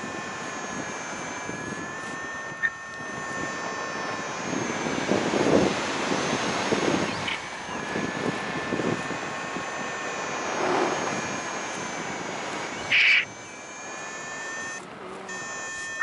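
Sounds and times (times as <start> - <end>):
engine drone with high whine: 0.0 - 16.0
wind noise on microphone: 0.0 - 16.0.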